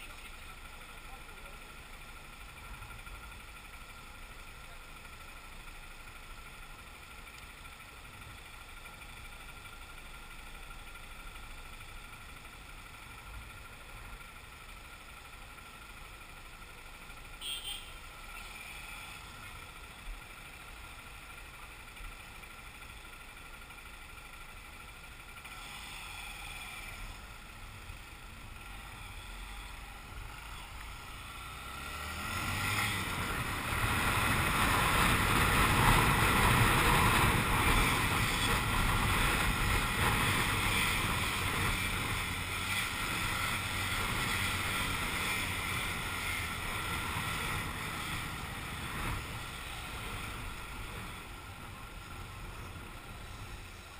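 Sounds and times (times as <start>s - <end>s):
motorcycle engine idling: 0.0s - 31.7s, 33.1s - 53.9s
light city traffic: 0.0s - 53.9s.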